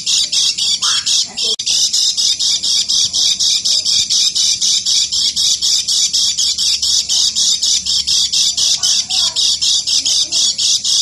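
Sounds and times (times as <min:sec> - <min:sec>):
bird chattering call: 0:00.0 - 0:11.0.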